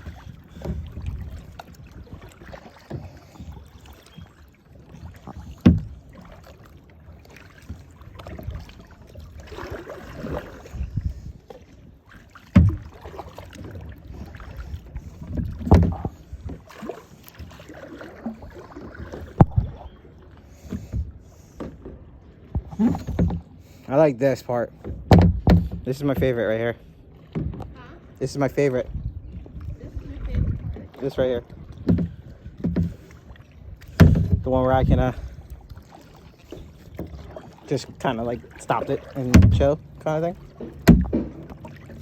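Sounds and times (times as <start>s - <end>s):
paddle knocks against hull: 0.0s - 23.7s, 24.7s - 26.6s, 27.2s - 28.0s, 29.3s - 42.0s
paddle splashing in water: 0.0s - 42.0s.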